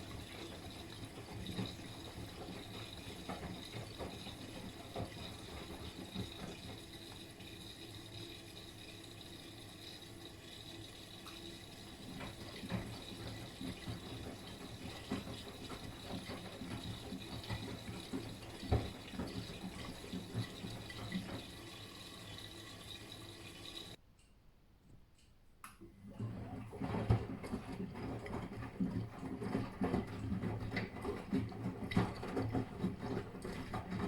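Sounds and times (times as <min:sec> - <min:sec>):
washing machine sloshing: 0:00.0 - 0:24.0, 0:26.0 - 0:34.0.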